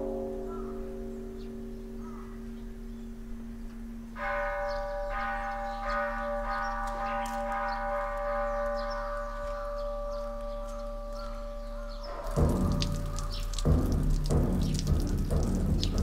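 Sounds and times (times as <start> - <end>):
deep bell humming: 0.0 - 16.0.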